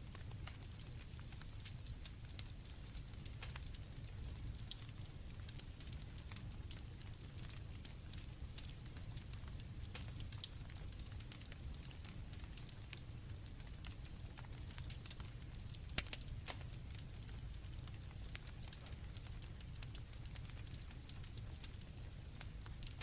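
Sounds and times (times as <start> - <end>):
campfire crackling and popping: 0.0 - 23.0
crickets chirping: 0.0 - 23.0.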